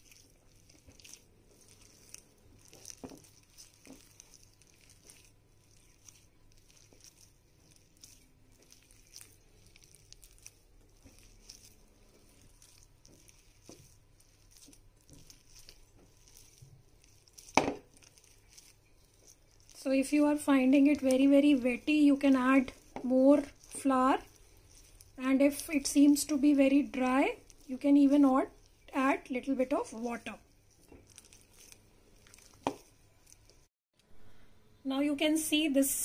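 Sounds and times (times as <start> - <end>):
hand kneading dough: 0.0 - 33.7.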